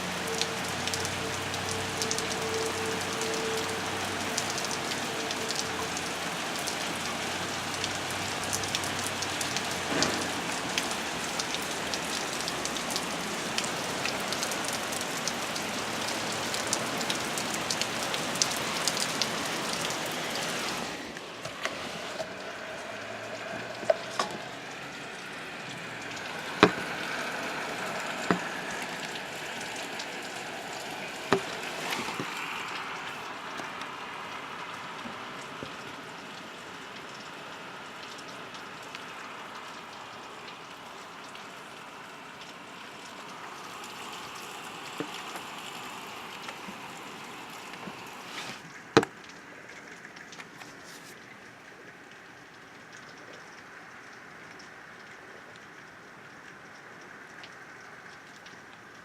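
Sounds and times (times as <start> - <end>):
heavy rain patter: 0.0 - 59.0
sharp drips: 0.0 - 59.0.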